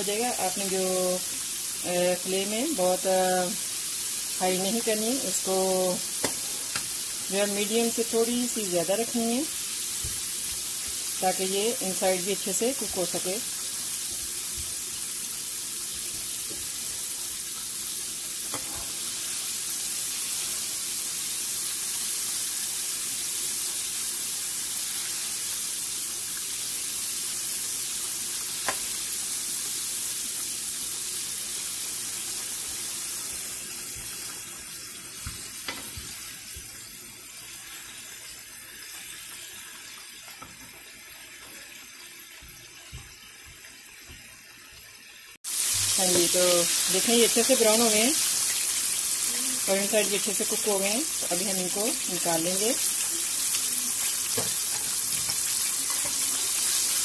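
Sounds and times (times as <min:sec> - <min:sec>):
chicken deep-frying in oil: 0:00.0 - 0:57.0.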